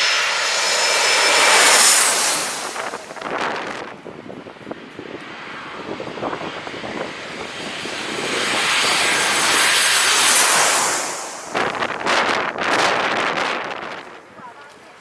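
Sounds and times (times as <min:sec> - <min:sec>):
airliner engines passing overhead: 0:00.0 - 0:15.0.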